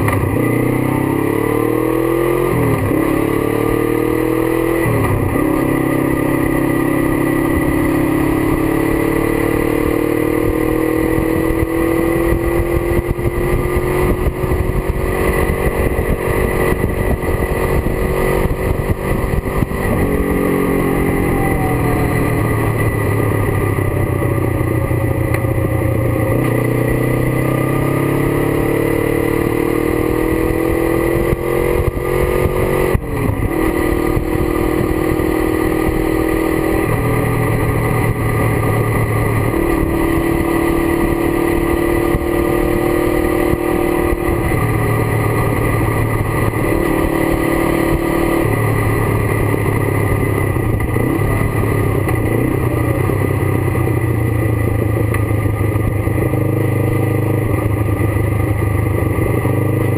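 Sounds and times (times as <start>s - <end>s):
motorcycle engine revving: 0.0s - 59.9s
wind noise: 1.4s - 59.9s.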